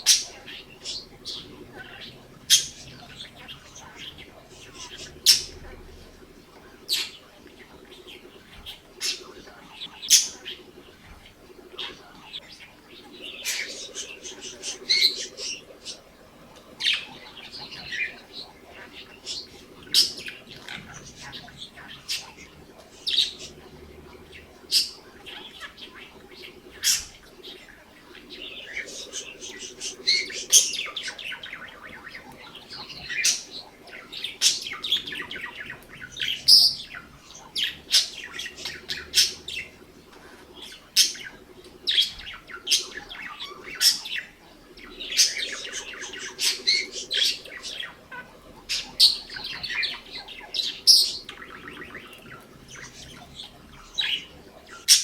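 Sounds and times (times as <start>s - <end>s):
budgerigars chattering and warbling: 0.0s - 55.0s.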